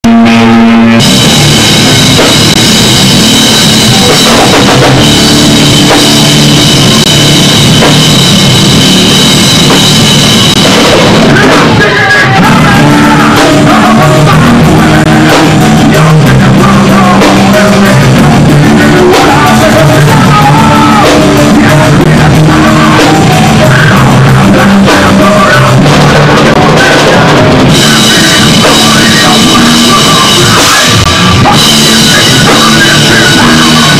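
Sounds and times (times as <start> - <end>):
drum kit: 0.0 - 33.9
electric guitar: 0.0 - 33.9
low guitar riff: 0.0 - 33.9.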